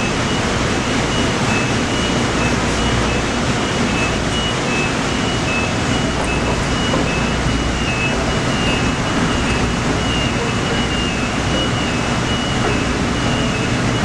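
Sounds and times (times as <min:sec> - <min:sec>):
two-tone warning beeper: 0:00.0 - 0:14.0
machinery din: 0:00.1 - 0:14.0.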